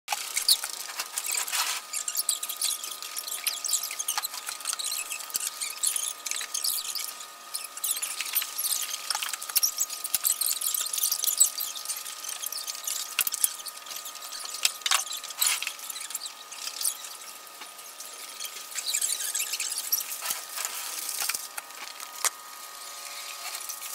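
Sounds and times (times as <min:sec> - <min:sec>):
high-pitched squeaks and chirps: 0:00.1 - 0:21.5.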